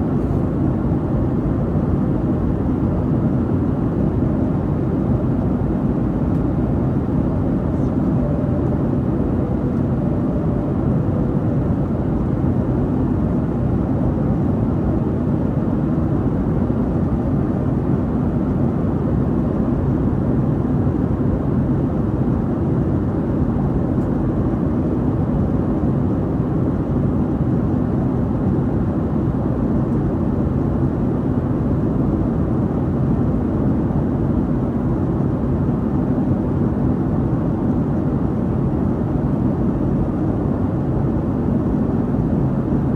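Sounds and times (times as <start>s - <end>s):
airplane cabin engine roar: 0.0s - 42.9s.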